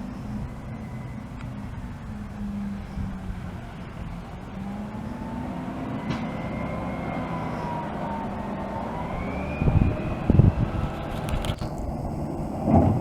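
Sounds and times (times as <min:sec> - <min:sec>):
brakes squealing: 0:00.0 - 0:13.0
truck engine running: 0:00.0 - 0:13.0.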